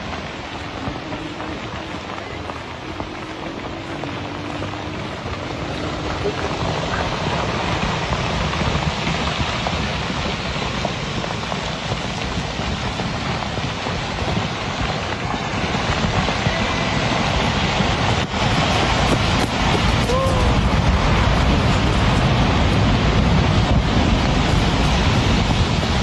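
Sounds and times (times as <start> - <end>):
loud rushing buffeting noise: 0.0 - 26.0.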